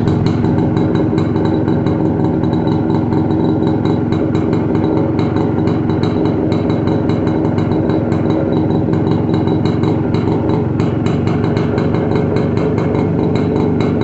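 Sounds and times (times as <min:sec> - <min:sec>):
two-stroke engine running: 0:00.0 - 0:14.0.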